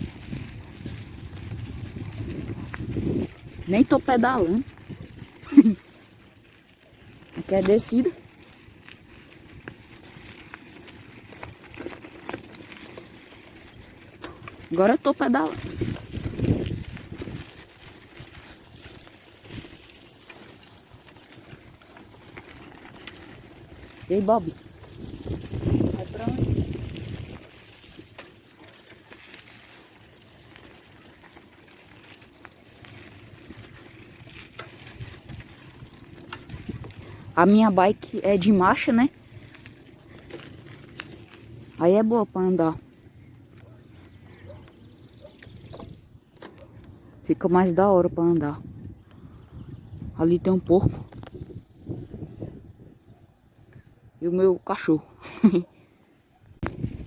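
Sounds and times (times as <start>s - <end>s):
bicycle tyres rumbling on road: 0.0s - 54.2s, 54.9s - 57.0s.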